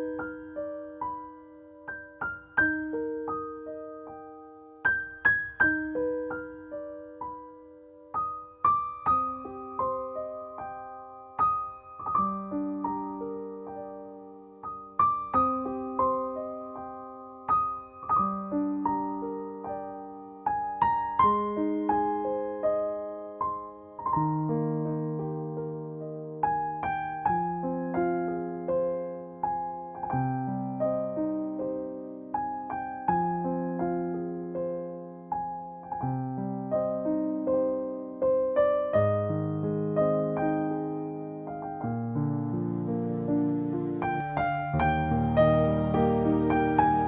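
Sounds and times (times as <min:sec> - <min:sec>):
soft solo piano music: 0:00.0 - 0:47.0.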